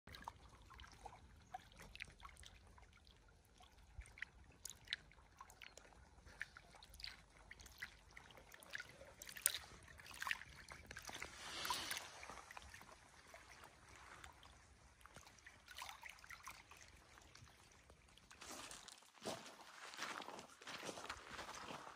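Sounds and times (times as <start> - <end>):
lake waves lapping on shore: 0.1 - 21.9.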